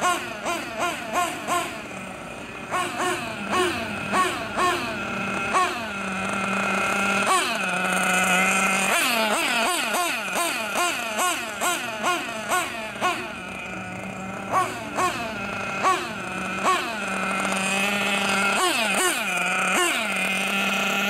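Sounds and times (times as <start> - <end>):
nitro engine revving: 0.0 - 21.0.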